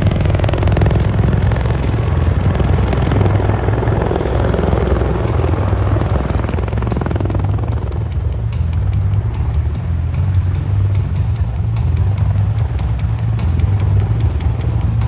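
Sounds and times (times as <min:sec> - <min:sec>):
tiltrotor aircraft thrumming overhead: 0:00.0 - 0:15.0.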